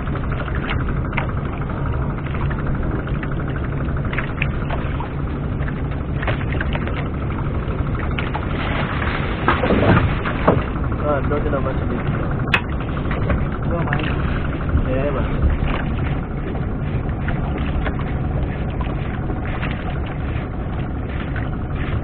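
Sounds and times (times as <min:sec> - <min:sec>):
boat engine humming with rattle: 0:00.0 - 0:22.0.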